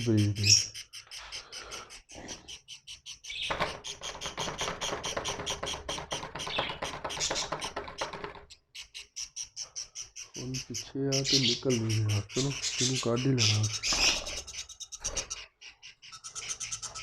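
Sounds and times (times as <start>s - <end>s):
parrots chirping: 0.0s - 17.0s.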